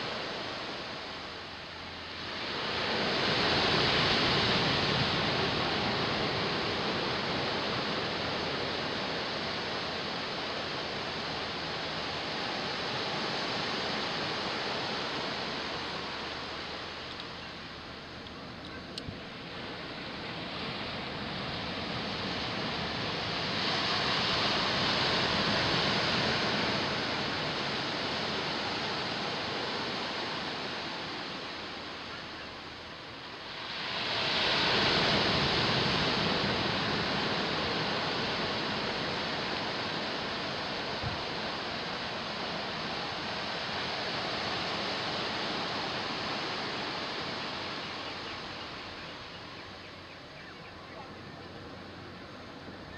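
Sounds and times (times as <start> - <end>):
ocean waves breaking: 0.0 - 18.1, 19.0 - 49.4.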